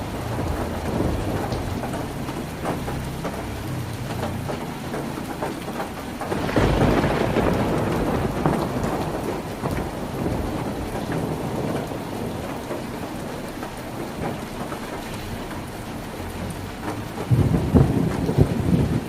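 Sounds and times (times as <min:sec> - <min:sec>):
heavy rain on a tin roof: 0:00.0 - 0:19.0.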